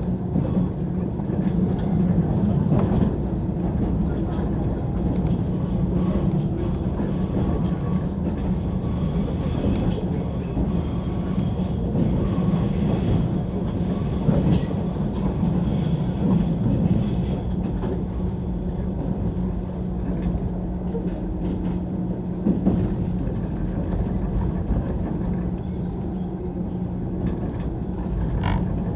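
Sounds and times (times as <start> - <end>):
train running rumble: 0.0 - 28.9.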